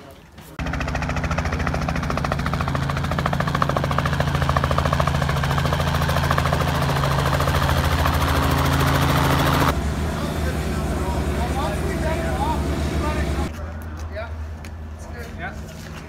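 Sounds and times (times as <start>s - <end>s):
helicopter rotor chopping: 0.6s - 13.5s.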